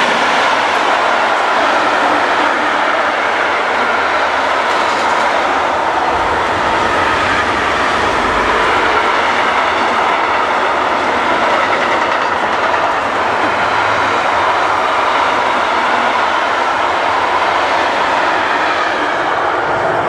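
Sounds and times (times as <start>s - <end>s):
freight train wheels rolling on rails: 0.0s - 20.0s.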